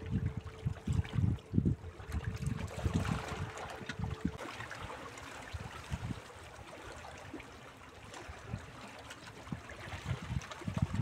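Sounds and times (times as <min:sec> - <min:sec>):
waves lapping against rocks: 0:00.1 - 0:11.0.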